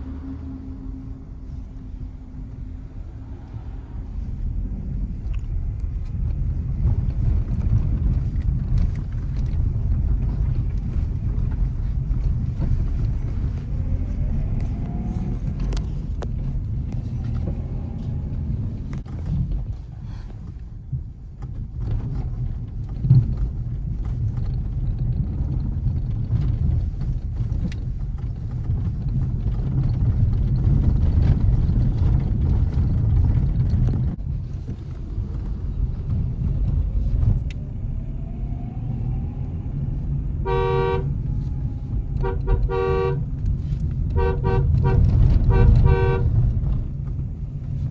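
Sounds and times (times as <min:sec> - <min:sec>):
car engine and tyres rumbling: 0:00.0 - 0:47.9.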